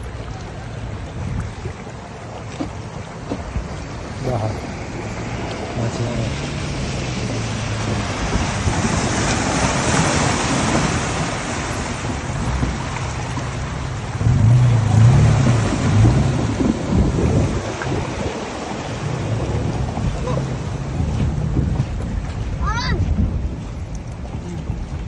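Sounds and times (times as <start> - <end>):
low engine rumble: 0.0 - 25.0
tyres splashing through water: 0.0 - 25.0.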